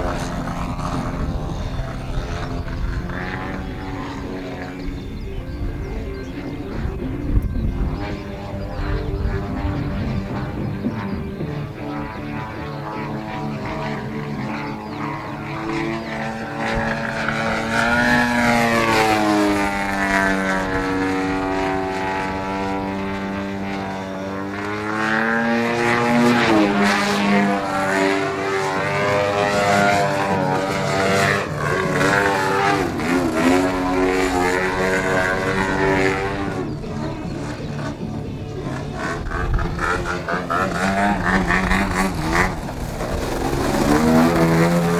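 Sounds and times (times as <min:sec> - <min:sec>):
model plane engine: 0:00.0 - 0:44.9.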